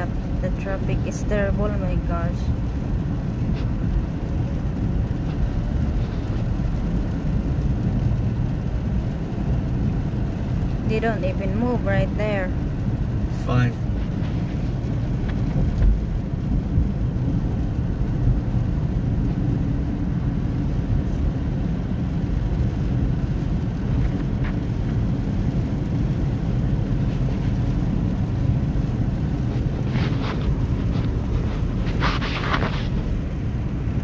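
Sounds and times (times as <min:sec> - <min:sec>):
car cabin rumble: 0:00.0 - 0:34.0
rain on car: 0:00.0 - 0:34.0.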